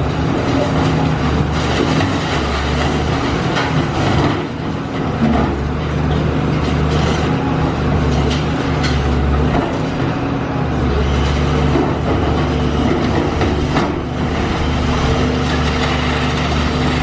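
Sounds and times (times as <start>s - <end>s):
diesel excavator engine: 0.0s - 17.0s.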